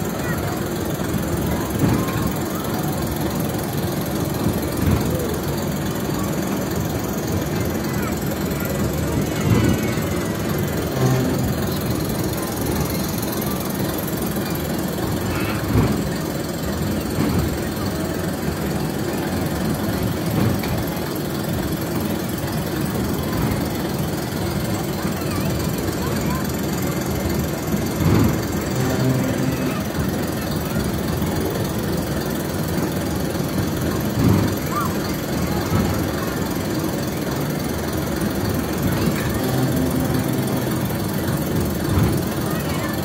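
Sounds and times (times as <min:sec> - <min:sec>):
ride rumbling in motion: 0:00.0 - 0:43.0.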